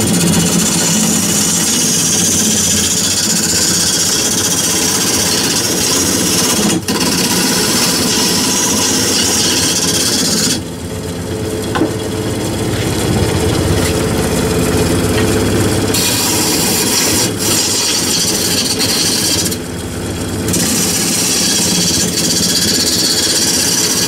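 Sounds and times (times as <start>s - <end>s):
gouge cutting wood rasping: 0.0s - 10.8s, 11.7s - 24.0s
lathe humming: 0.0s - 24.0s.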